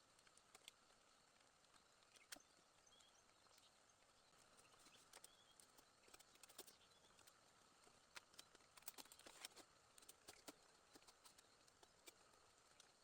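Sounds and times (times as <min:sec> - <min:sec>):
small irregular clicks and taps: 0:00.0 - 0:13.0.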